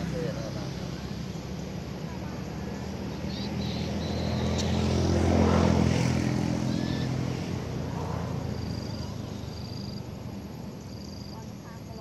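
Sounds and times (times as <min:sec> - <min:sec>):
motor vehicle passing by: 0:00.0 - 0:11.3.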